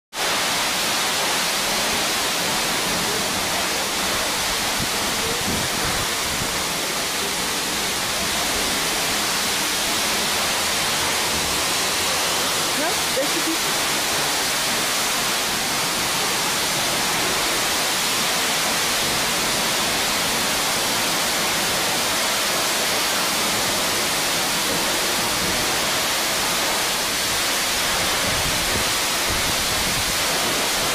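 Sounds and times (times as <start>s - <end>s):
falling water rushing: 0.1s - 30.9s.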